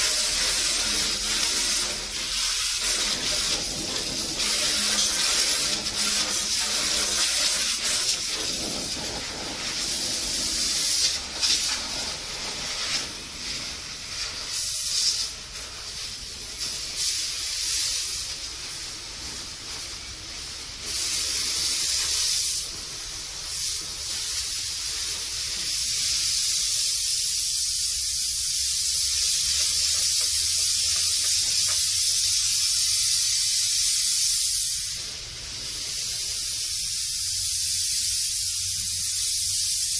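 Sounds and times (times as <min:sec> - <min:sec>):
water jet hissing on metal: 0:00.0 - 0:39.9.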